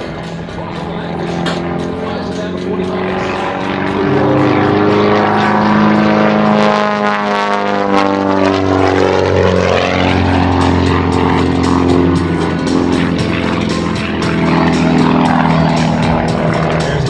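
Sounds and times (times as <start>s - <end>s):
propeller plane engine: 0.0s - 17.0s.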